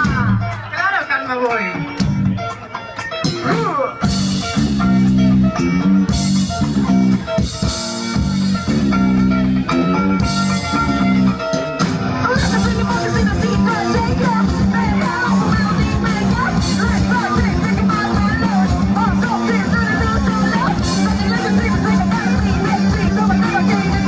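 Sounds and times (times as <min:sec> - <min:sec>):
bass line: 0:00.0 - 0:00.8, 0:01.8 - 0:24.0
electric guitars: 0:00.0 - 0:24.0
drum kit with cymbals: 0:01.8 - 0:24.0.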